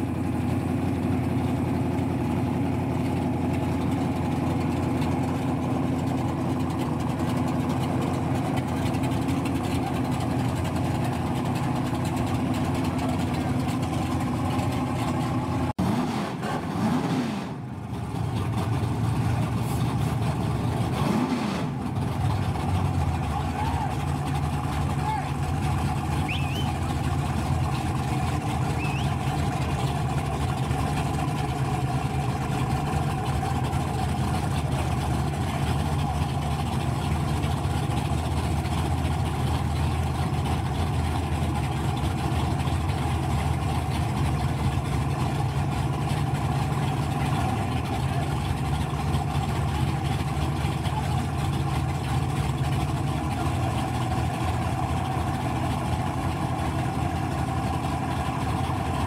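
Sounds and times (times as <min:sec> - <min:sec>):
car engines idling: 0:00.0 - 0:16.9, 0:17.5 - 0:59.0.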